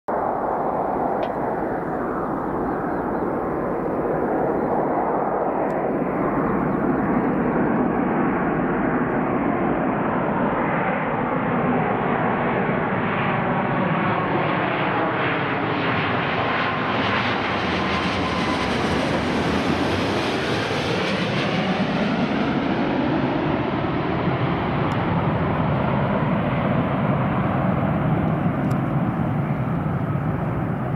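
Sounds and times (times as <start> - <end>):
jet airliner engines roaring: 0.1 - 30.9.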